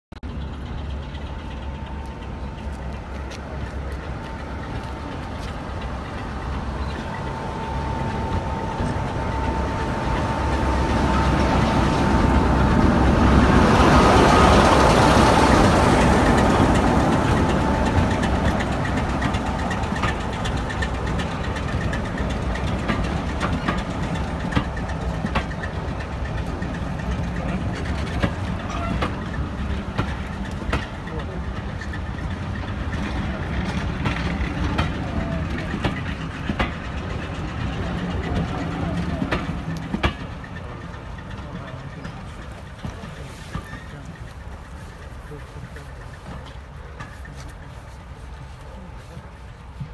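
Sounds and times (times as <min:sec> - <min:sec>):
diesel locomotive engine: 0:00.1 - 0:49.9
steady whine: 0:00.2 - 0:42.5.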